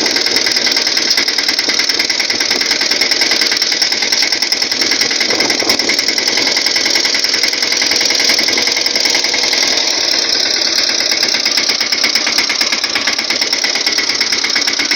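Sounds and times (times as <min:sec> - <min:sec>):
tractor engine clattering: 0:00.0 - 0:14.9.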